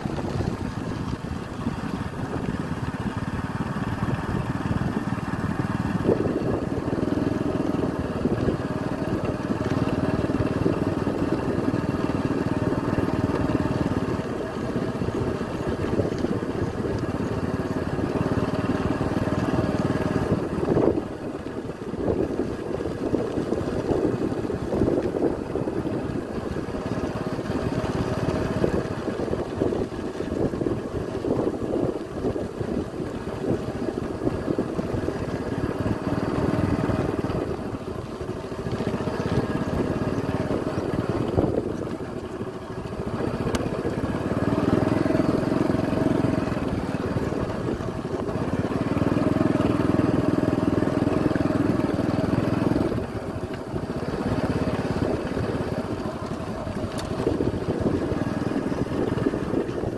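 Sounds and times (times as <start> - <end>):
wind buffeting microphone: 0.0 - 17.6, 19.6 - 59.9
motorcycle engine running: 0.0 - 59.9.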